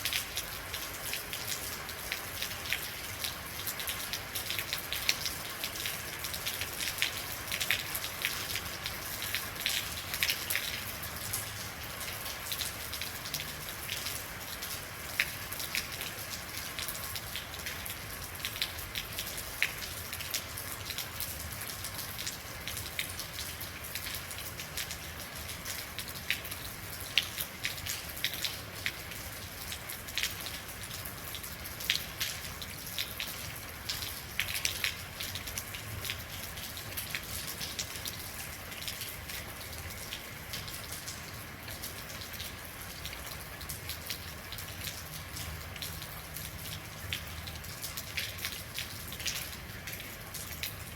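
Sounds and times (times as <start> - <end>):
raindrops ticking on hard surfaces: 0.0 - 50.9.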